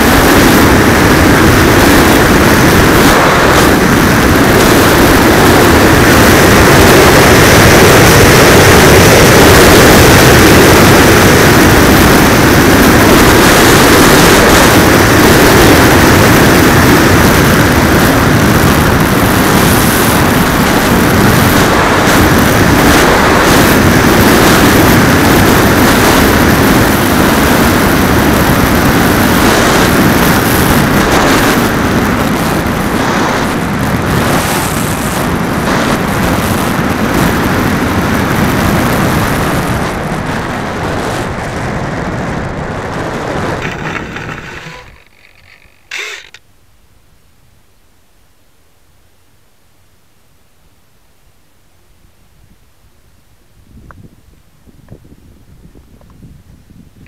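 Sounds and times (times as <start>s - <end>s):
wind rush of model aircraft: 0.0s - 46.5s, 52.3s - 57.0s.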